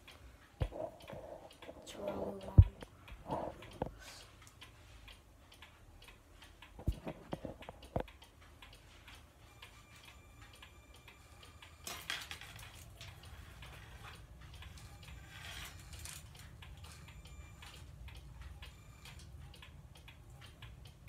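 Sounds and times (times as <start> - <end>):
pendulum clock ticking: 0.0 - 21.0.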